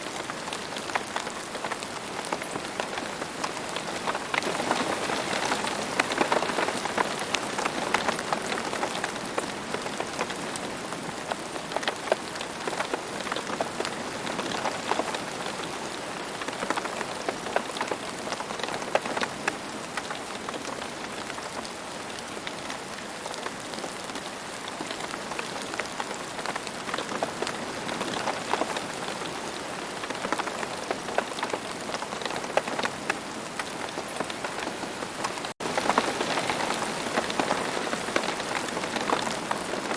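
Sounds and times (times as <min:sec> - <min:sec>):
rain falling on ground: 0:00.0 - 0:39.9.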